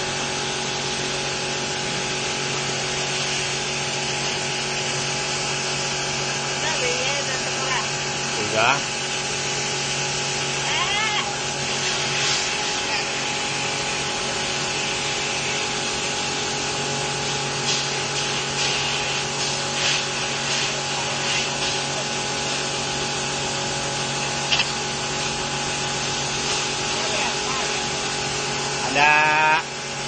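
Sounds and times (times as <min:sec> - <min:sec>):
mechanical hum with hiss: 0:00.0 - 0:30.0.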